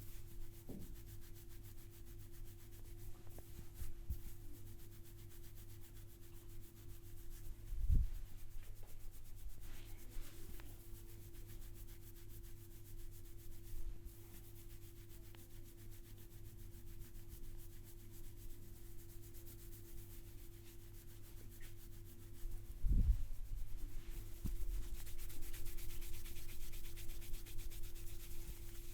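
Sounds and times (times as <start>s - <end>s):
hands rubbing hair and scalp: 0.0s - 28.9s.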